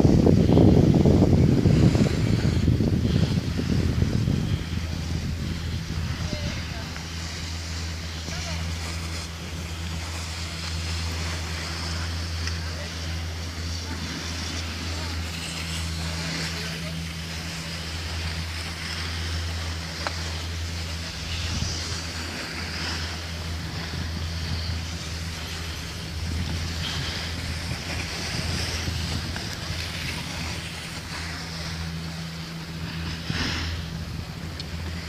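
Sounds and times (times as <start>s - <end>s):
low machine hum: 0.0s - 35.0s
wind on microphone: 0.0s - 35.0s.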